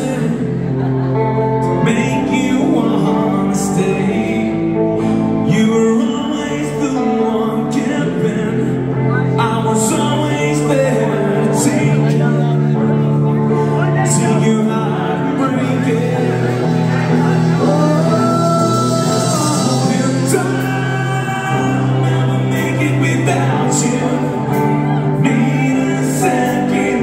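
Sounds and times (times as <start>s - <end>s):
man singing lead vocals: 0.0s - 27.0s
rock band playing: 0.0s - 27.0s.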